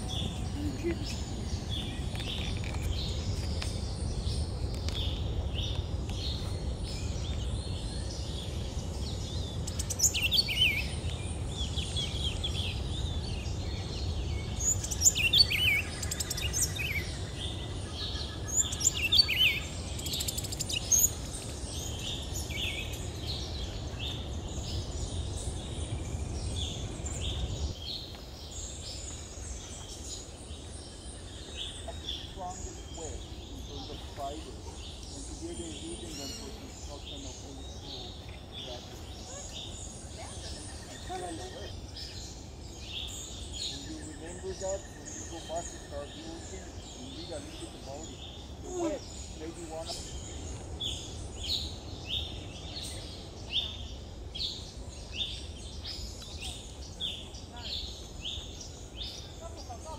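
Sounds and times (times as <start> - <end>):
birds calling and chirping: 0.0 - 59.9.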